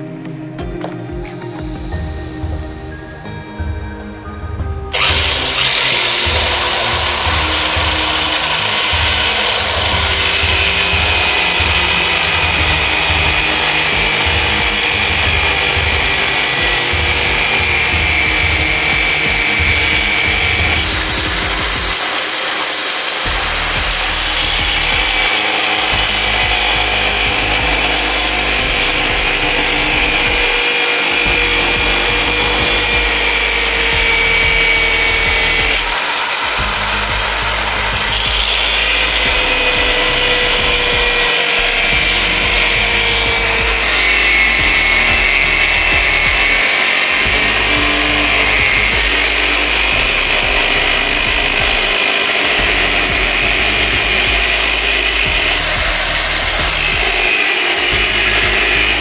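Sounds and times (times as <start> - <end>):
disc grinding through coconut shell: 4.9 - 59.0
electric drill motor whine: 4.9 - 59.0.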